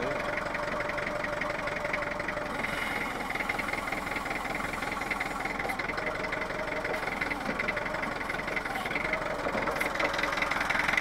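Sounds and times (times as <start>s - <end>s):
forklift running: 0.0s - 11.0s
hydraulics working: 0.0s - 11.0s.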